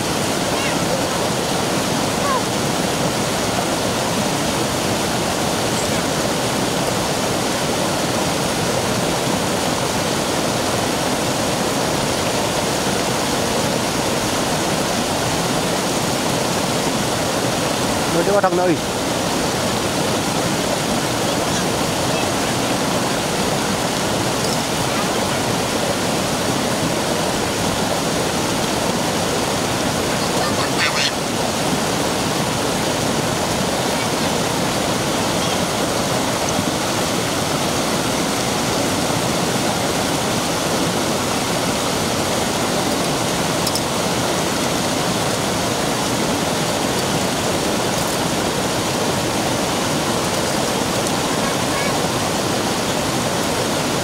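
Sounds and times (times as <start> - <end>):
stream cascading over rocks: 0.0 - 54.0.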